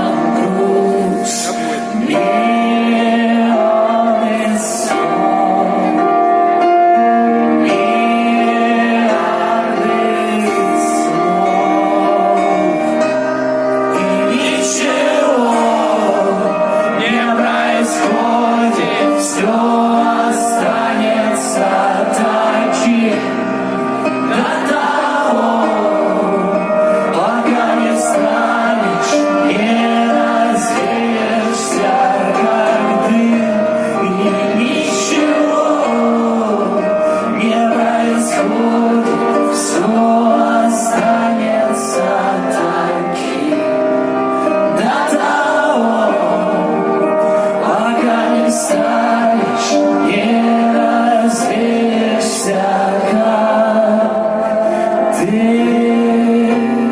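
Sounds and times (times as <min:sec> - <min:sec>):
person singing: 0:00.0 - 0:56.9.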